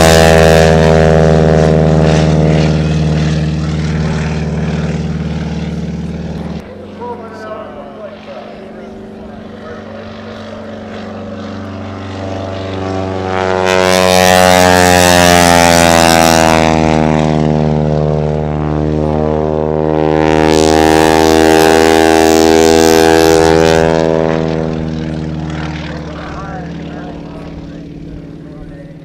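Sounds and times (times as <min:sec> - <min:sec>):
propeller plane engine drone: 0:00.0 - 0:29.0.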